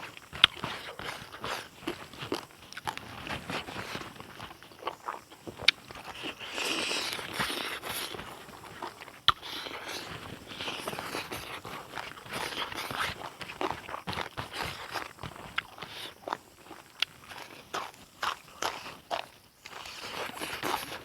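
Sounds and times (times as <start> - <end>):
food crunching: 0.0 - 21.0
person chewing food: 0.0 - 21.0.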